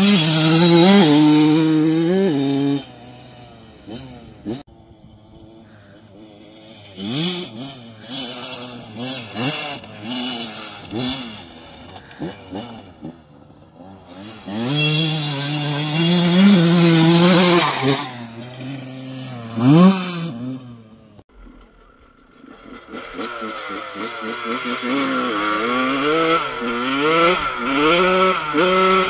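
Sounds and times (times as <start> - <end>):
dirt bike engine revving: 0.0 - 21.2, 21.8 - 29.0.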